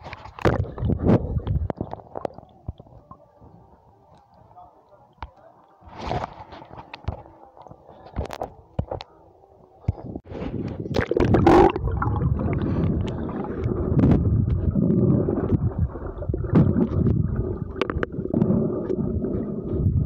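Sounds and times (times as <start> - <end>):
muffled underwater rumble and gurgle: 0.0 - 20.0.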